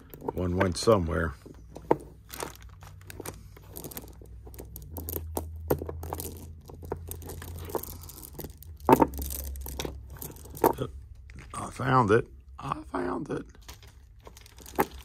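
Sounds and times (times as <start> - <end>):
pearls clicking and rattling: 0.0 - 11.5, 13.6 - 15.0.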